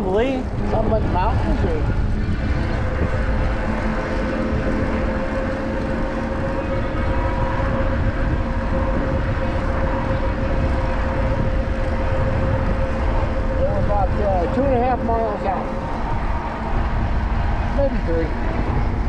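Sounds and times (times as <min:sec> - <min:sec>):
electric motor whine: 0:00.0 - 0:19.0
wind buffeting microphone: 0:00.0 - 0:19.0.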